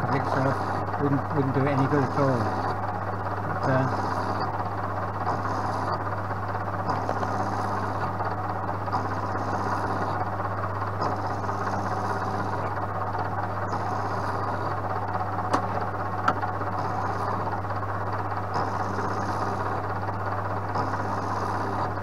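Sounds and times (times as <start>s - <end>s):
milling machine motor hum: 0.0s - 22.0s.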